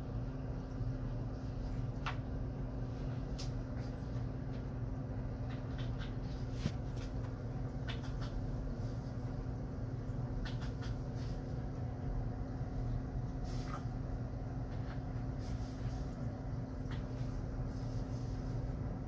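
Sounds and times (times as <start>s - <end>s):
aquarium pump humming: 0.0s - 19.0s.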